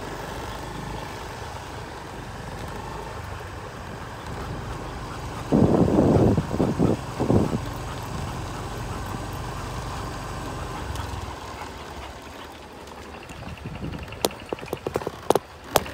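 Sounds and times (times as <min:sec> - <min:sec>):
motorbike engine running: 0:00.0 - 0:15.9.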